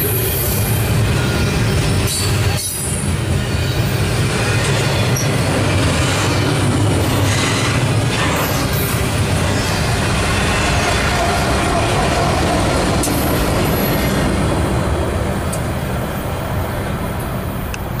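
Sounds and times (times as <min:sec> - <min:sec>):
diesel locomotives rumbling past: 0:00.0 - 0:18.0.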